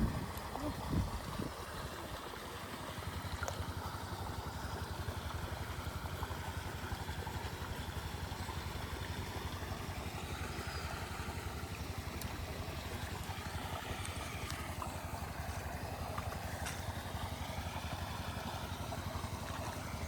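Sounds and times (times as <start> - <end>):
small engine puttering: 3.0 - 20.0.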